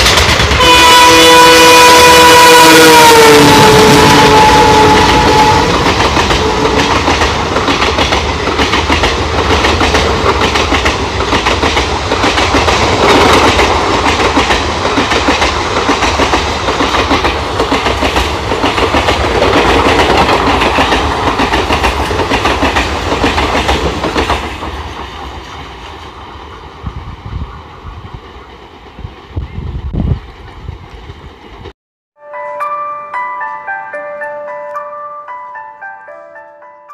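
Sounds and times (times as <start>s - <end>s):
train passing with wheel clatter: 0.0s - 31.7s.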